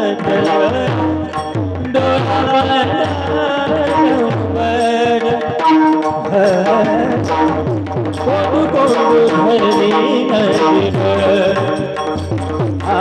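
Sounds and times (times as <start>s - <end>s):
hand drum rhythm: 0.0s - 13.0s
held instrumental notes: 0.0s - 13.0s
person singing: 0.0s - 13.0s.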